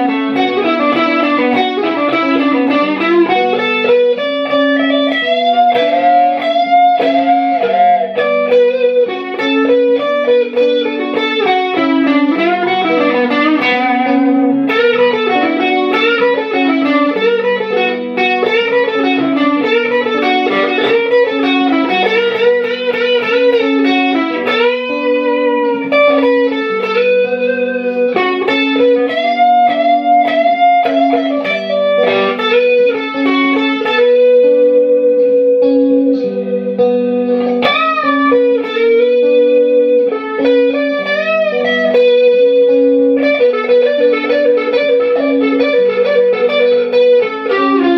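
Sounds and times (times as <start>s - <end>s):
electric guitar lead with string bends: 0.0s - 47.9s
sustained low guitar notes: 0.0s - 47.9s.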